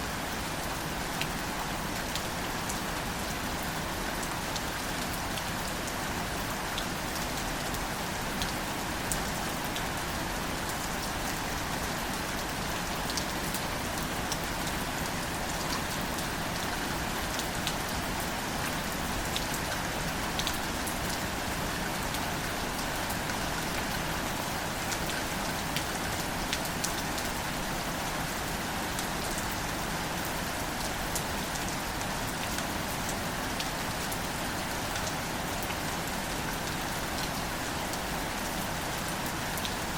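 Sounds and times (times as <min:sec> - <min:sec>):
light rain falling on plants: 0:00.0 - 0:39.9.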